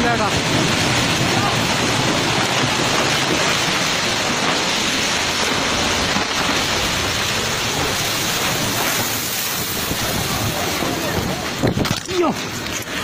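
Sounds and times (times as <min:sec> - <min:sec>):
heavy rain: 0:00.0 - 0:13.0
mud and water pouring down: 0:00.0 - 0:13.0.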